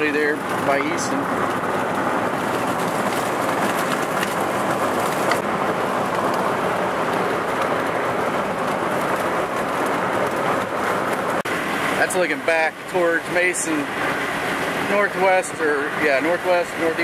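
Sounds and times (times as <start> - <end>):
scattered rain patters: 0.0 - 17.0.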